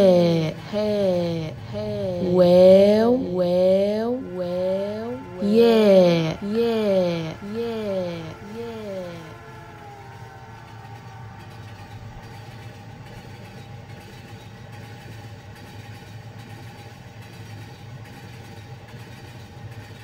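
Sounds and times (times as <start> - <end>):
low engine-like rumble: 0.0 - 17.8.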